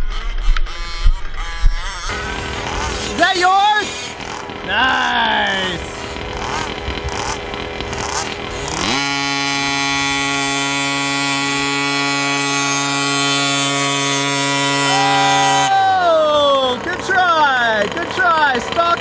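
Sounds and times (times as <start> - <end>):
small gas engine revving: 0.0 - 19.0.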